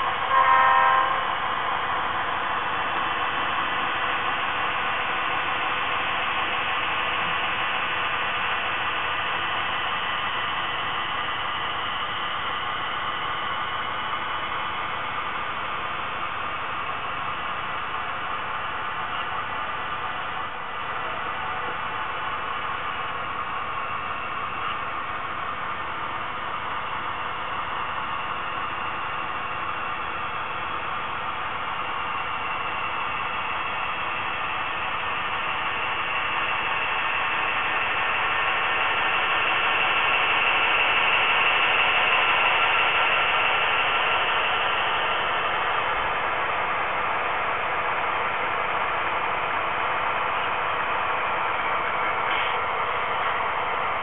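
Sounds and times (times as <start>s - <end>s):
model locomotives hissing whir: 0.0s - 54.0s.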